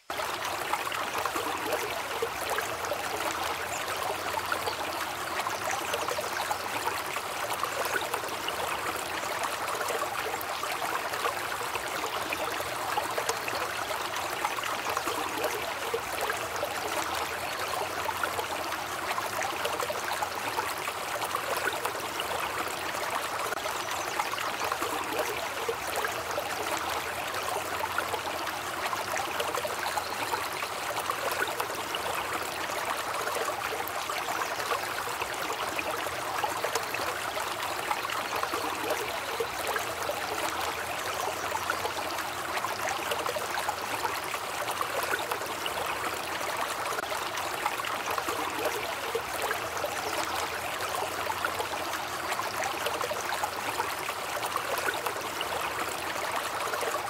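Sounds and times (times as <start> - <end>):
stream trickling and splashing: 0.0 - 57.0.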